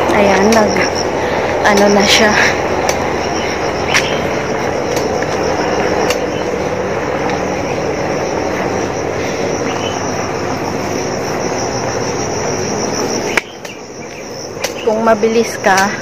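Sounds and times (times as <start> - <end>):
helicopter rotor drone: 0.0 - 16.0
insects chirring: 0.0 - 16.0.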